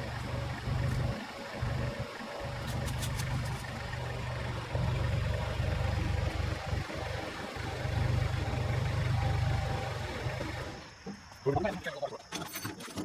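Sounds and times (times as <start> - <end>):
tractor engine running: 0.0 - 11.9.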